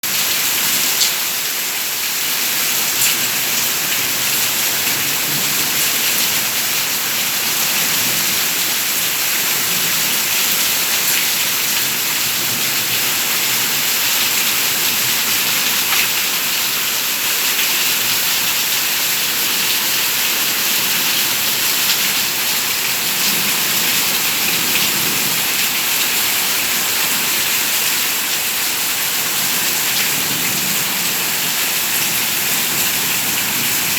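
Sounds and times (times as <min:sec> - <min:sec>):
heavy rain pattering: 0:00.1 - 0:33.9.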